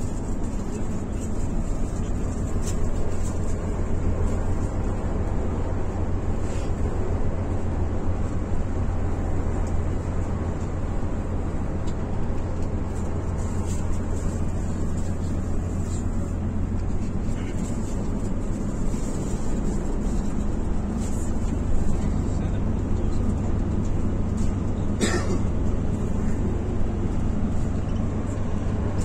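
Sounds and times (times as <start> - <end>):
bus engine drone: 0.0 - 29.0
tyre and road noise: 0.0 - 29.0.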